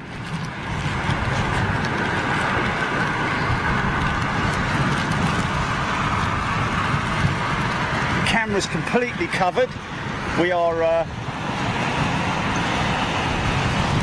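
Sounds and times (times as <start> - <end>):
heavy rain: 0.6 - 10.4, 11.1 - 14.0.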